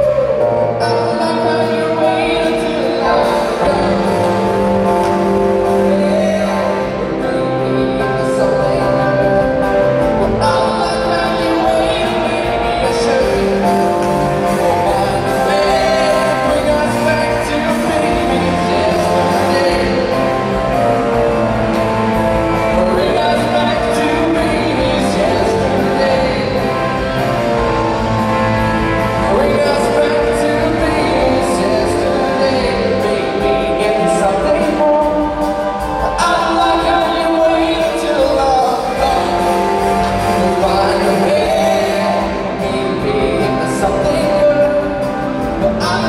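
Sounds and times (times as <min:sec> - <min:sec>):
drum kit: 0:00.0 - 0:46.0
keyboards: 0:00.0 - 0:46.0
person singing: 0:00.0 - 0:46.0.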